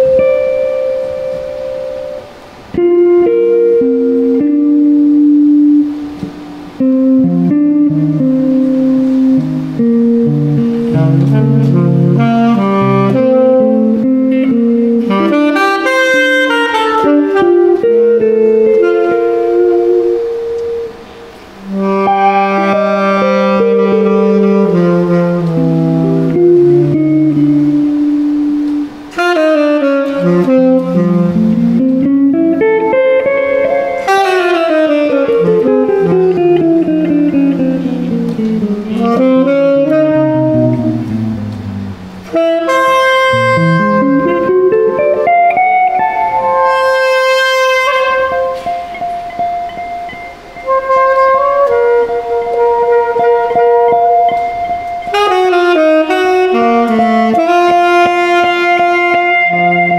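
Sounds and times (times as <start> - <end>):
electric guitar accompaniment: 0.0 - 59.9
tenor saxophone melody: 0.0 - 59.9.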